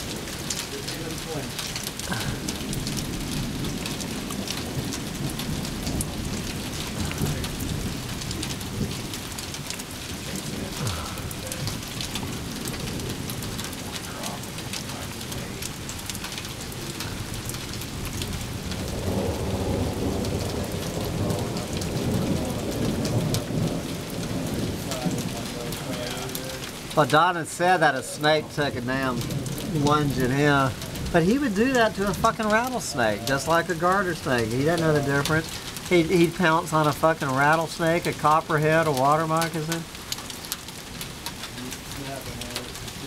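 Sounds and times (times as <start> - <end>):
steady rain falling: 0.0 - 43.0
thunder rumbling: 0.0 - 43.0.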